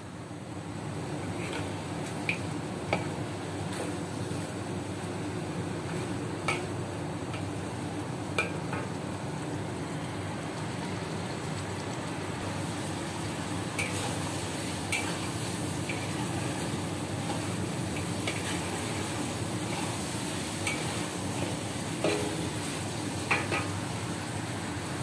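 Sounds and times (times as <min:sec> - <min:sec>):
sauce sizzling and bubbling: 0:00.0 - 0:25.0.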